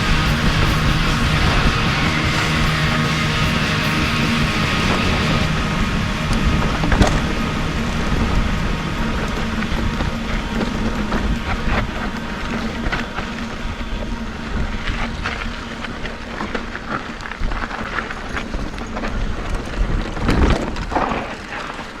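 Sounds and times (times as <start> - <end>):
bike rattling: 0.0 - 22.0
tyres crunching on loose ground: 0.0 - 22.0
wind rumbling on microphone: 0.0 - 22.0.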